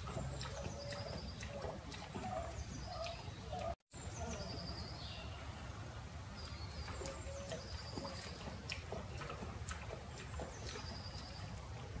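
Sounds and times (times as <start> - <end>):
lioness lapping water: 0.0 - 4.5, 6.3 - 12.0.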